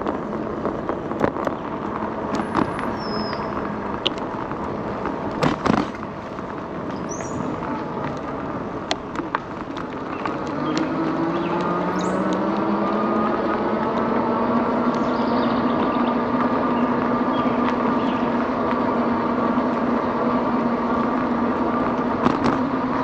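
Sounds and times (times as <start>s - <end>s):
bike rolling noise: 0.0s - 23.0s.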